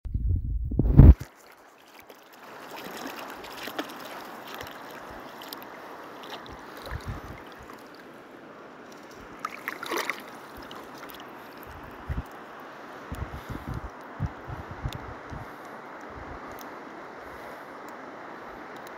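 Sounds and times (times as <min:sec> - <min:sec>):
water splashes: 0:01.0 - 0:17.6
river water sloshing and lapping: 0:01.2 - 0:18.9.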